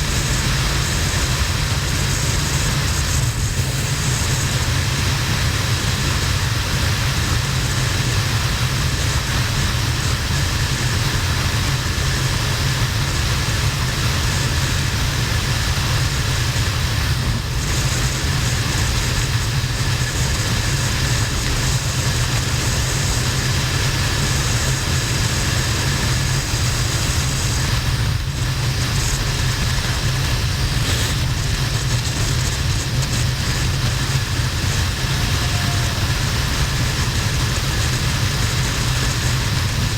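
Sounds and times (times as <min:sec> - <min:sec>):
motorcycle engine low rumble: 0:00.0 - 0:39.9
wind and road noise: 0:00.0 - 0:39.9.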